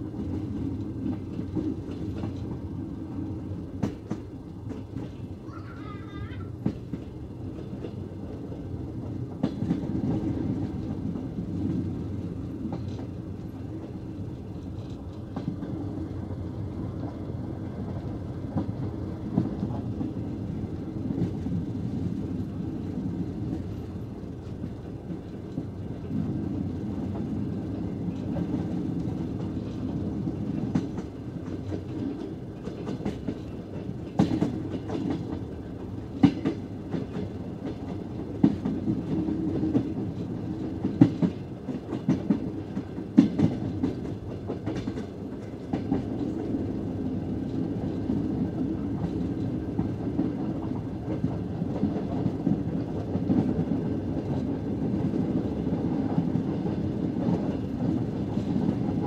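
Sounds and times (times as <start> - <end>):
clacks at rail joints: 0.0 - 16.4, 17.9 - 20.4, 21.0 - 59.0
train wheels rumbling on track: 0.0 - 59.0.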